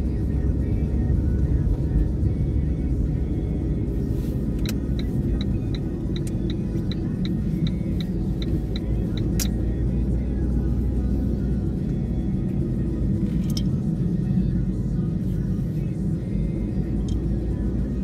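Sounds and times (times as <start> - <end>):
car driving rumble from inside: 0.0 - 18.0.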